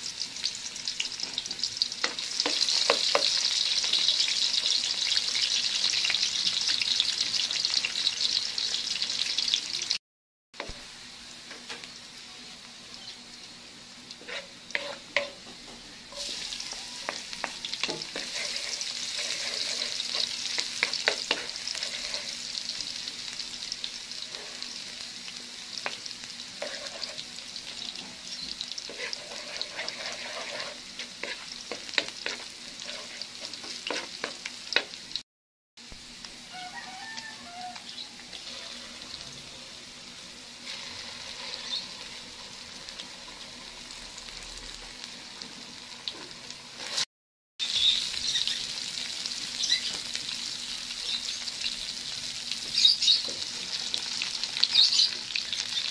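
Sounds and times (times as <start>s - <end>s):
vegetables sizzling in hot oil: 0.0s - 10.0s, 10.6s - 35.2s, 35.8s - 55.9s.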